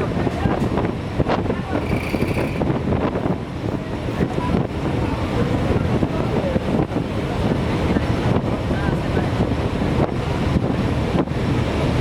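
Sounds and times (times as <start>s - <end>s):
boat engine rumble: 0.0s - 12.0s
rushing water: 0.0s - 12.0s
wind noise: 0.0s - 12.0s.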